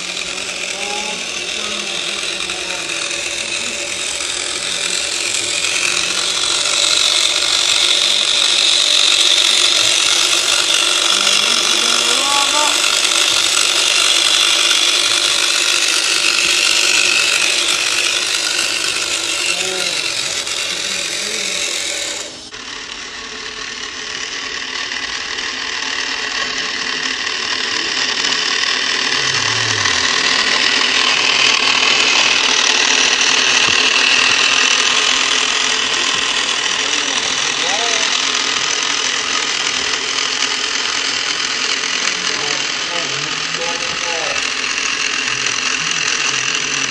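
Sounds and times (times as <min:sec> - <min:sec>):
electric motor and gearbox whining: 0:00.0 - 0:46.9.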